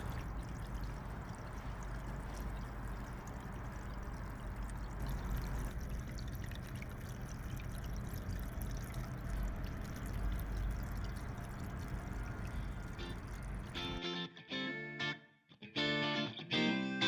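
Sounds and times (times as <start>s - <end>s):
fountain water trickling: 0.0s - 14.0s.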